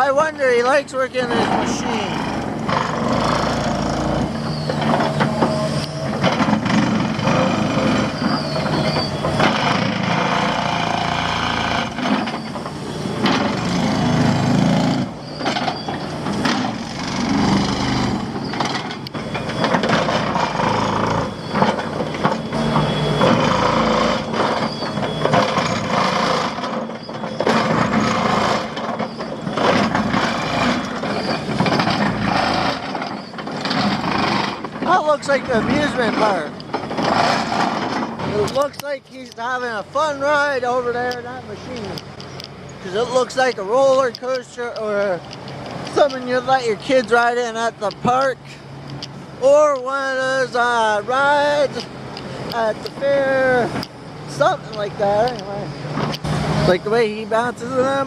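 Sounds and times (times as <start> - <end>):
excavator clanks and knocks: 0.0 - 58.0
excavator engine running: 0.0 - 58.0.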